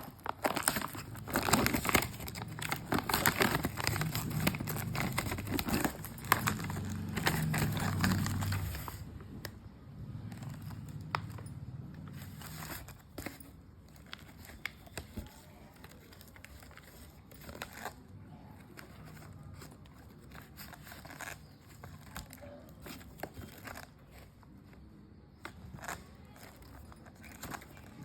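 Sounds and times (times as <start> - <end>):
packaging crinkling and rustling: 0.0 - 28.0.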